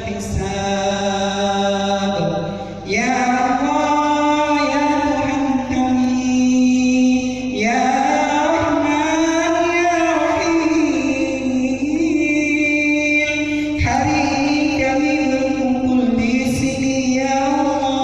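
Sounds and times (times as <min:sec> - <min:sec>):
man chanting a prayer: 0:00.0 - 0:18.0.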